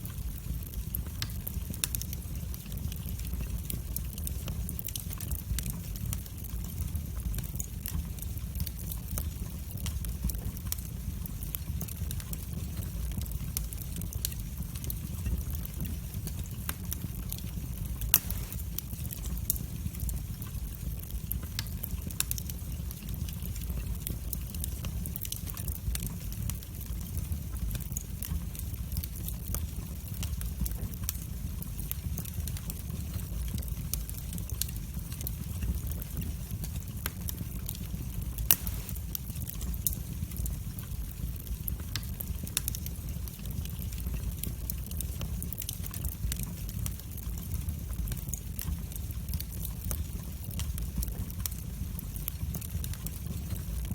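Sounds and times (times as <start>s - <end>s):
low rumble of flames: 0.0s - 53.9s
wood fire crackling: 0.0s - 53.9s.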